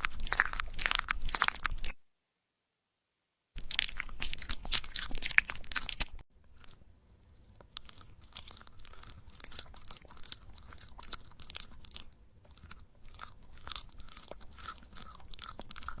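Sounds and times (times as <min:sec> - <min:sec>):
puppy chewing crunchy food: 0:00.0 - 0:02.0, 0:03.6 - 0:06.8, 0:07.5 - 0:16.0.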